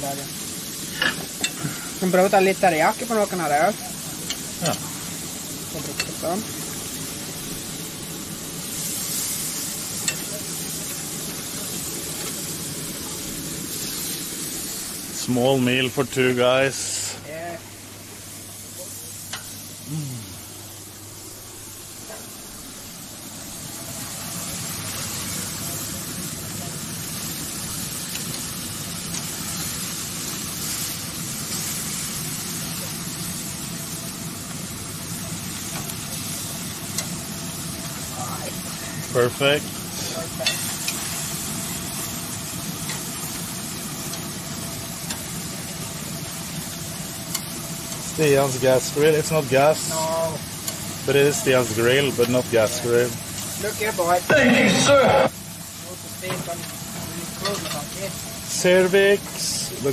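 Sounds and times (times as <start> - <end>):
meat sizzling on a grill: 0.0 - 59.9.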